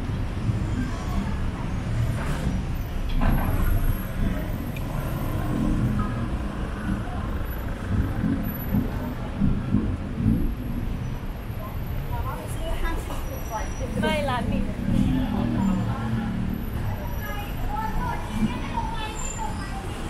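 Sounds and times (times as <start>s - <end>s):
traffic engines rumbling: 0.0s - 20.0s.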